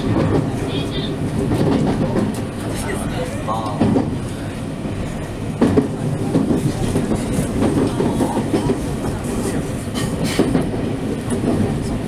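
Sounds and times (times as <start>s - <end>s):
train wheel and rail rumble: 0.0s - 12.0s.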